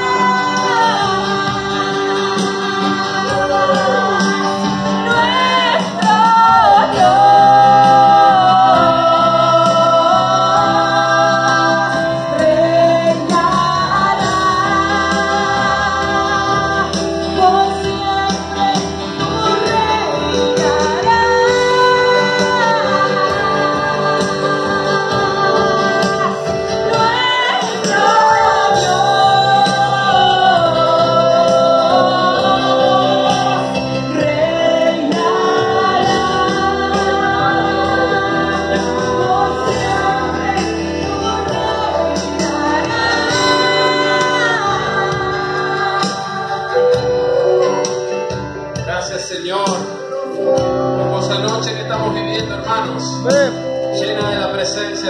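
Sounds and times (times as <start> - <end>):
steady bass: 0.0 - 47.4
acoustic guitar: 0.0 - 55.0
keyboard: 0.0 - 55.0.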